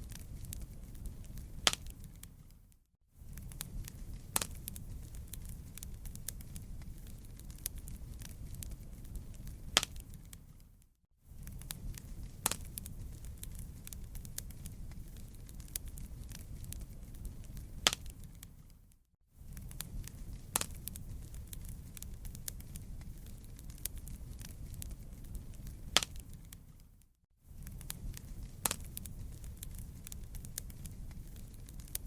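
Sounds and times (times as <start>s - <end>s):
loud fire pops: 0.0s - 2.5s, 3.3s - 10.6s, 11.4s - 18.7s, 19.5s - 26.8s, 27.6s - 32.0s
campfire crackling: 0.0s - 32.0s.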